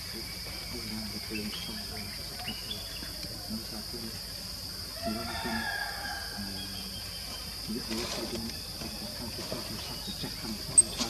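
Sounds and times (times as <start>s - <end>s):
faint murmuring voices: 0.0s - 5.7s, 6.4s - 11.0s
high-pitched insect drone: 0.0s - 11.0s.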